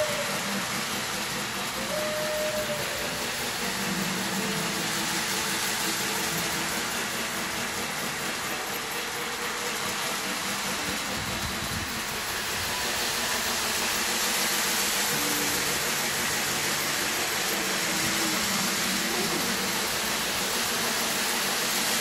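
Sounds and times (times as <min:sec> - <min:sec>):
model train running: 0:00.0 - 0:22.0.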